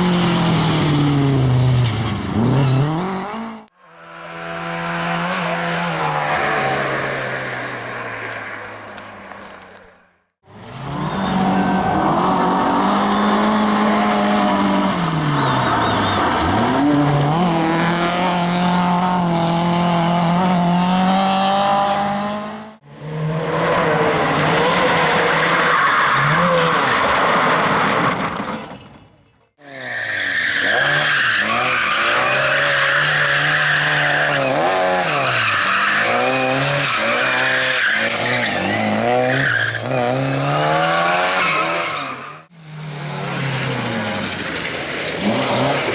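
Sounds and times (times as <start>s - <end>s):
racing car engines revving: 0.0s - 9.8s, 10.5s - 28.5s, 29.6s - 45.9s.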